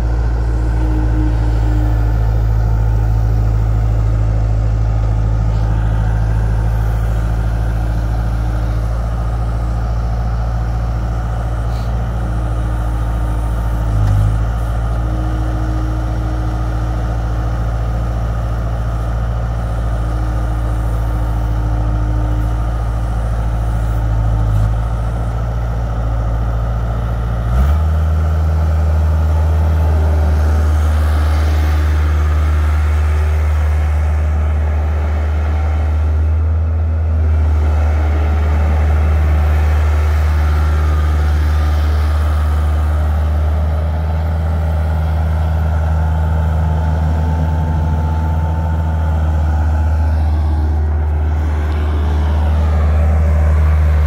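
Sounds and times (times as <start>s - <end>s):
diesel loader engine running: 0.0s - 54.0s.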